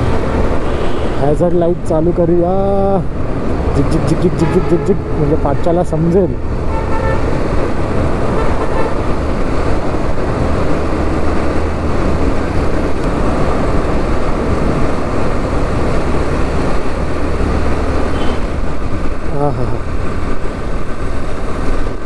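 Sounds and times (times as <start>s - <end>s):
motorcycle engine hum: 0.0s - 22.0s
road and traffic noise: 0.0s - 22.0s.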